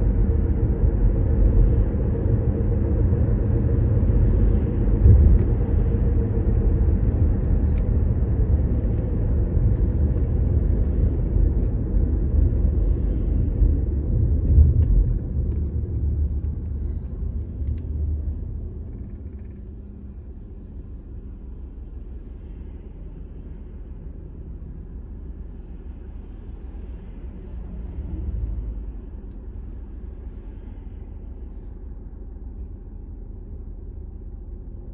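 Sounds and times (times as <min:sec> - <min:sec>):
car interior road rumble: 0:00.0 - 0:34.9.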